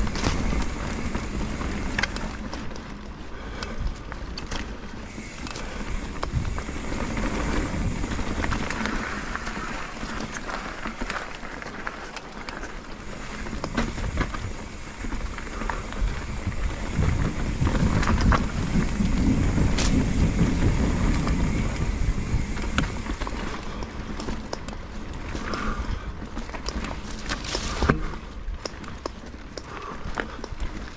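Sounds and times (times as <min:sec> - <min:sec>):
bike clicks and rattles: 0:00.0 - 0:30.9
bike tyres rolling on dirt: 0:00.0 - 0:30.9
wind rumbling on microphone: 0:00.0 - 0:30.9.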